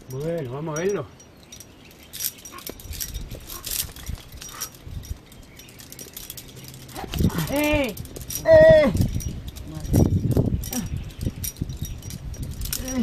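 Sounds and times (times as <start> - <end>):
climbing hardware clinking: 0.0 - 13.0.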